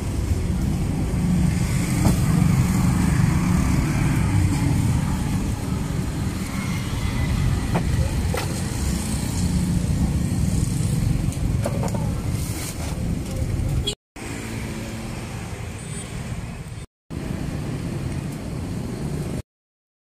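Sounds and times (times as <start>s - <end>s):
low rumble of street traffic: 0.0s - 19.4s.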